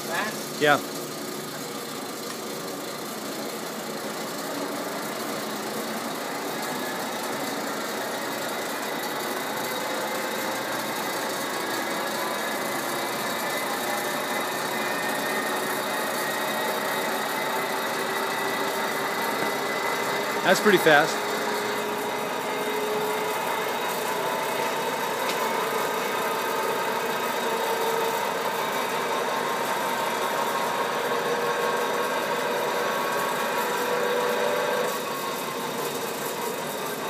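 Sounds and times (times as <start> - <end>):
lathe gear whine: 0.0 - 37.0.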